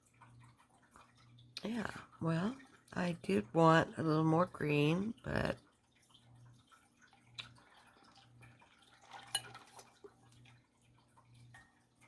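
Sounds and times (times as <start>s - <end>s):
faint drips and taps: 0.0s - 12.0s.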